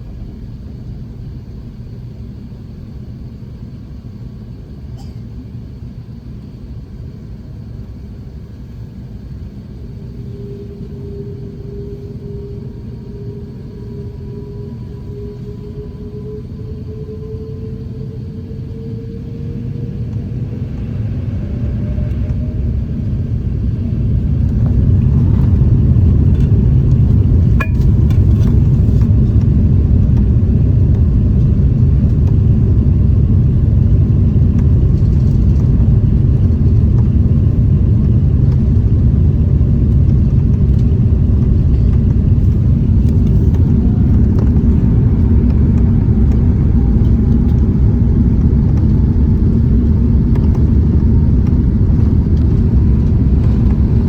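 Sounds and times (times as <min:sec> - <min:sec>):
faint rising whine: 0:07.1 - 0:38.2, 0:40.2 - 0:54.0
jet engines spooling up: 0:08.8 - 0:54.0.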